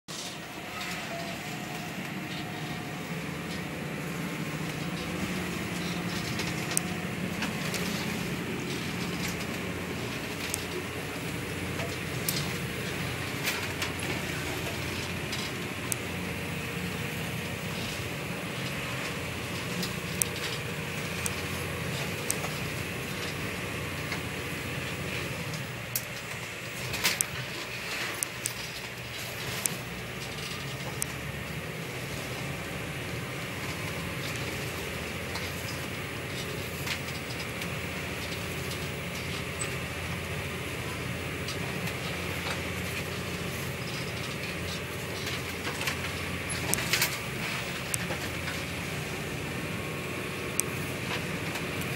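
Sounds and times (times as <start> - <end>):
boat engines running: 0.1 - 51.9
heavy sea noise: 0.1 - 51.9.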